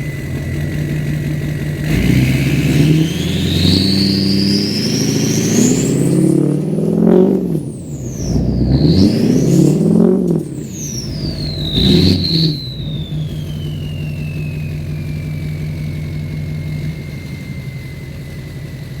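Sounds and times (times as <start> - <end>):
diesel engine revving and idling: 0.0 - 19.0
turbo whistle falling in pitch: 2.0 - 19.0.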